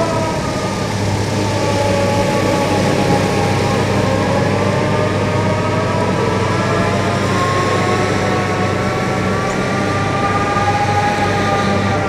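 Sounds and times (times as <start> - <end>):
machine engine and hydraulics whining: 0.0 - 12.0.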